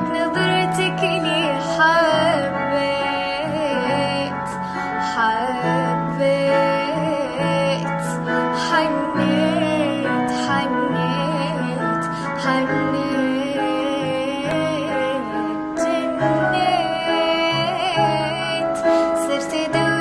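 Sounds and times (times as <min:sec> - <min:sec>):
keyboard chords: 0:00.0 - 0:20.0
woman singing: 0:00.0 - 0:20.0.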